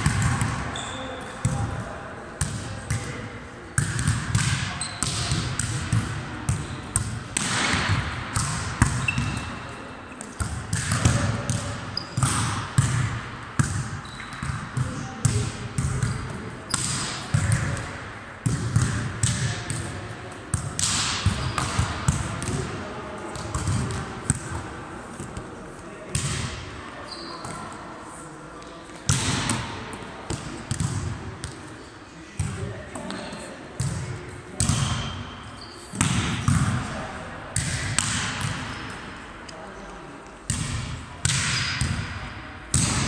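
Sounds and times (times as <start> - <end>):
balls bouncing on hall floor: 0.0 - 1.8, 3.8 - 27.8, 28.6 - 31.7, 32.4 - 35.2, 36.0 - 37.0, 37.6 - 39.1, 40.4 - 43.0.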